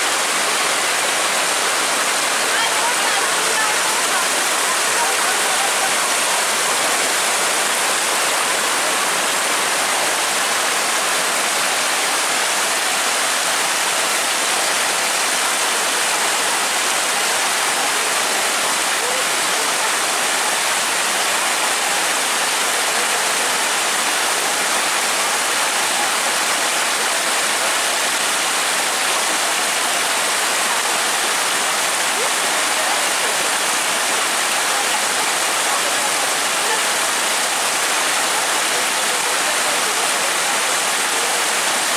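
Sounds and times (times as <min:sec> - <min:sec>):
floodwater rushing: 0:00.0 - 0:41.9.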